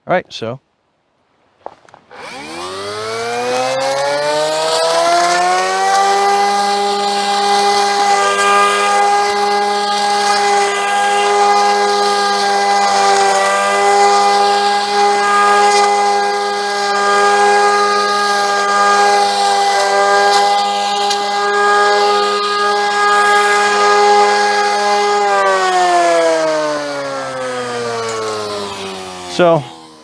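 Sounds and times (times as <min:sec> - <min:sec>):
brush cutter motor whining: 0:01.9 - 0:30.0.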